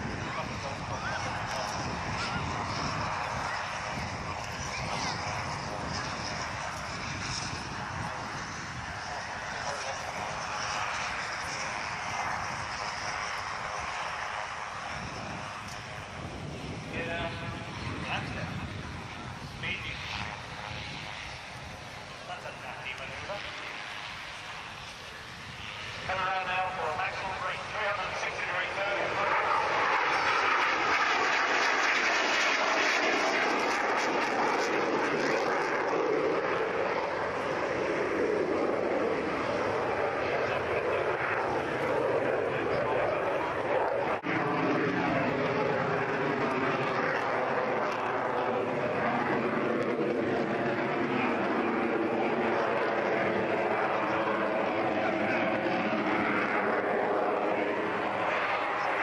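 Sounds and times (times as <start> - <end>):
jet aircraft flying overhead: 0.0 - 59.0.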